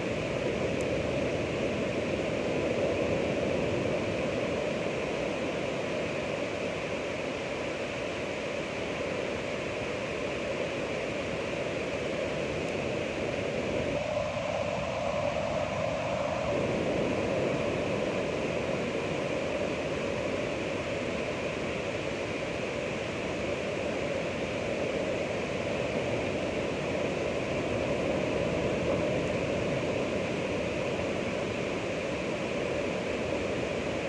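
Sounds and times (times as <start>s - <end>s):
ocean surf washing: 0.0s - 34.0s.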